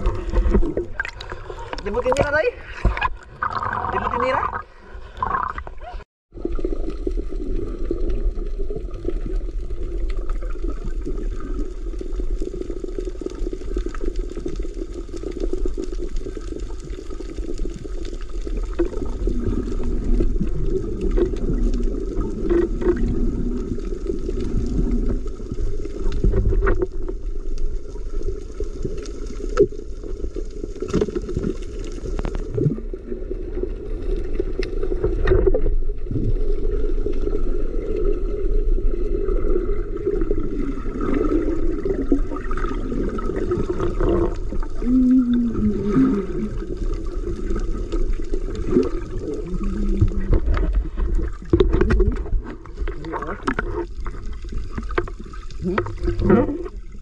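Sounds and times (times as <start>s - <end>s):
underwater rush of water: 0.0s - 57.0s.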